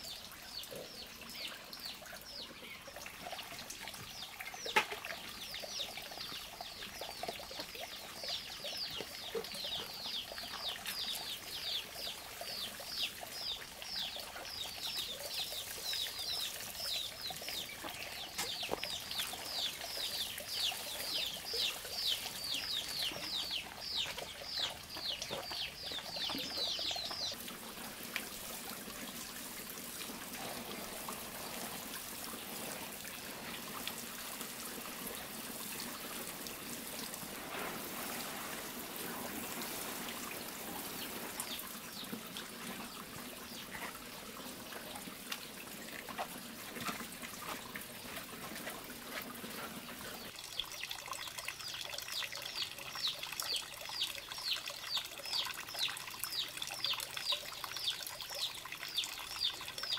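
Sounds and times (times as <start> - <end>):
watering can sprinkling water: 2.9 - 59.9.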